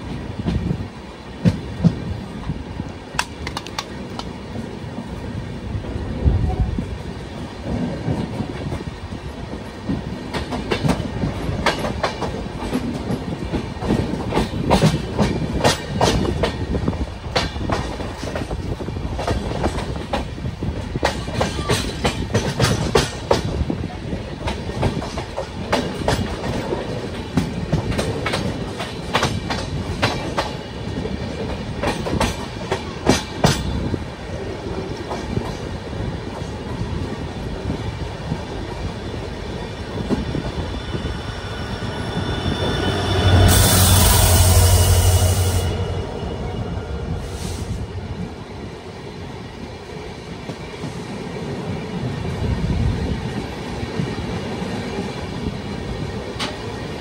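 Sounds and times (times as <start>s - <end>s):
train wheels clattering on rails: 0.0s - 6.0s, 7.0s - 46.4s, 49.2s - 57.0s.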